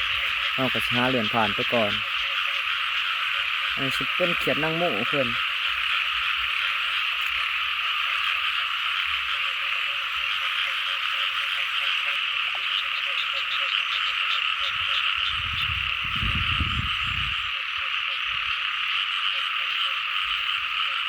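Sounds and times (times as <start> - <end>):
frogs croaking in chorus: 0.0 - 21.0.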